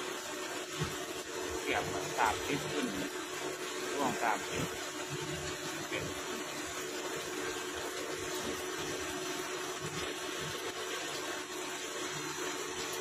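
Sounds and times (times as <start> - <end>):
coolant splashing: 0.0 - 13.0.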